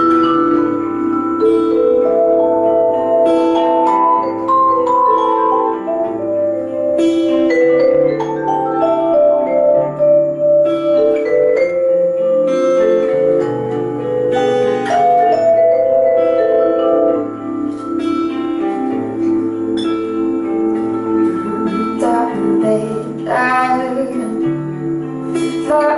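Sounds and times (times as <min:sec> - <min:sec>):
acoustic guitar chords: 0:00.0 - 0:25.9
vibraphone melody: 0:00.0 - 0:25.9.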